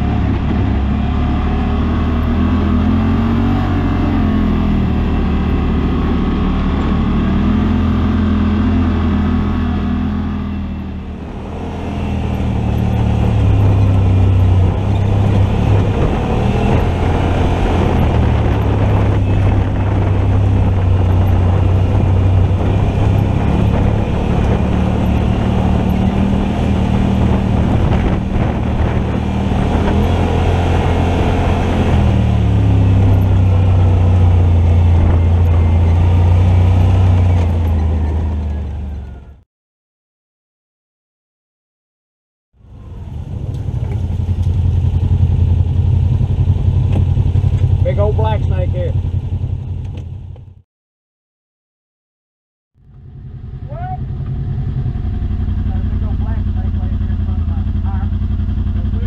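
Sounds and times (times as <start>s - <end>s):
utv engine running: 0.0s - 39.4s, 42.6s - 50.6s, 52.8s - 59.0s.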